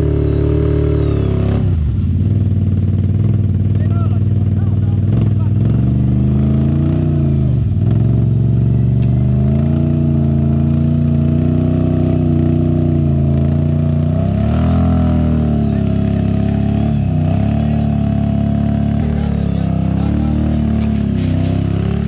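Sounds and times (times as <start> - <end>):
atv engine running under load: 0.0 - 22.0.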